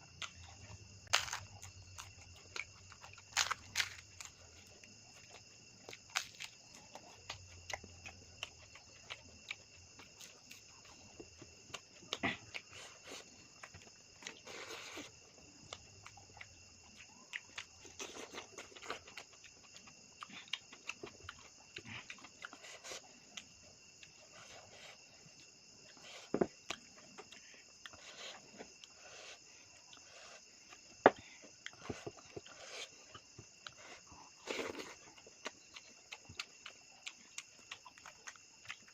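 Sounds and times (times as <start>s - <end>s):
insects chirring: 0.0s - 38.9s
wet chewing clicks and smacks: 0.1s - 30.9s, 31.5s - 38.9s.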